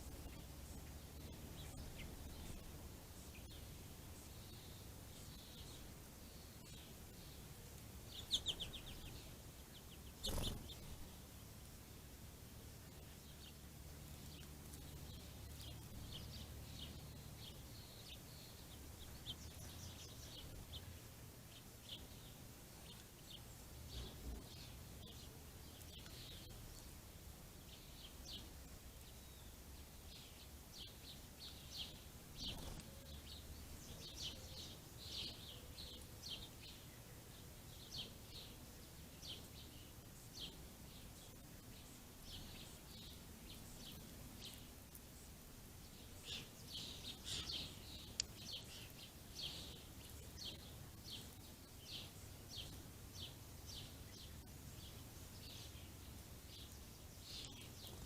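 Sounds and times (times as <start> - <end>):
low steady hum: 0.0 - 58.0
small birds chirping: 0.0 - 58.0.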